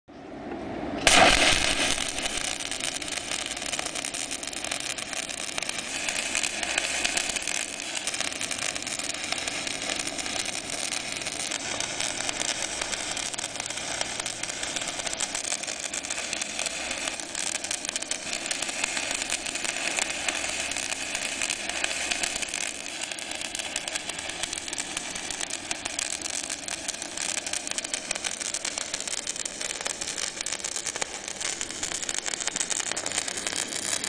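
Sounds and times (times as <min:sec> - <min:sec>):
welding crackling hiss: 0:01.0 - 0:34.0.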